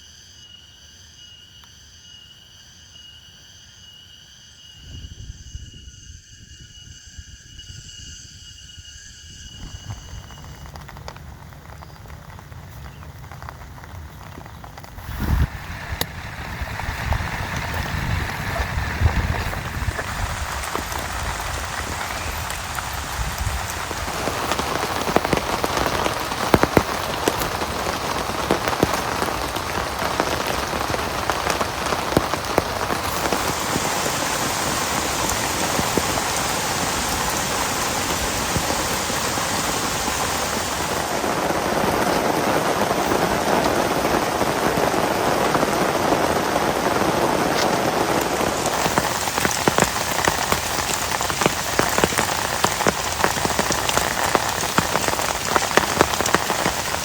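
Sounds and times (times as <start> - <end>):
heavy rain falling: 9.6 - 57.0
raindrops tapping close by: 9.6 - 57.0.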